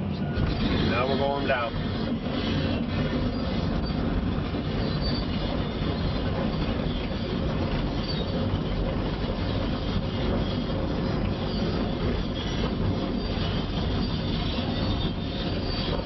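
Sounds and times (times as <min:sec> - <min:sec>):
excavator diesel engine under load: 0:00.0 - 0:16.0
steel tracks clanking and squealing: 0:00.0 - 0:16.0.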